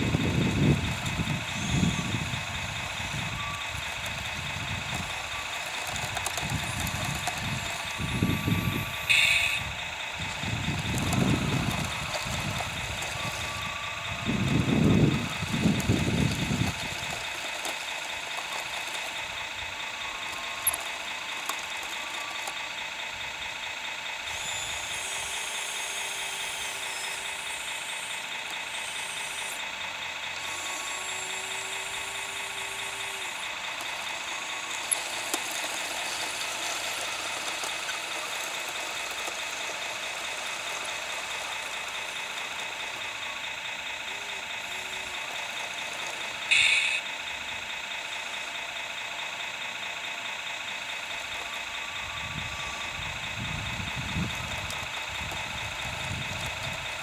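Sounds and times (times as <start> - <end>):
tracked loader drive whine: 0.0 - 57.0.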